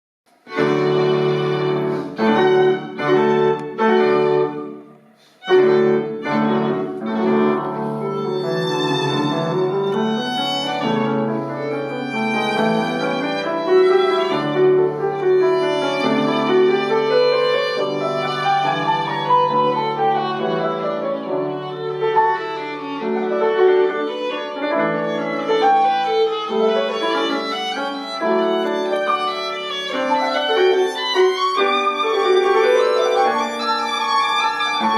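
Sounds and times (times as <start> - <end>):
piano accompaniment: 0.3 - 34.9
violin melody: 0.3 - 34.9.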